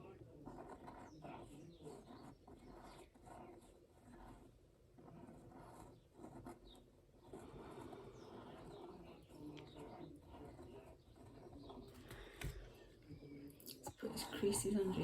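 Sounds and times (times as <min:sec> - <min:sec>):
pen scratching on paper: 0:00.0 - 0:13.2.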